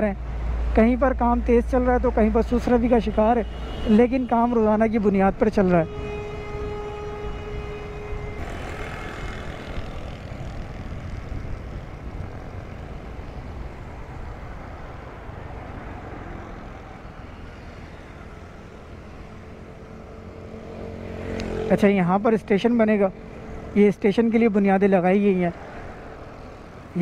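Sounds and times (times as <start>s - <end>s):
road traffic rushing: 0.0s - 27.0s.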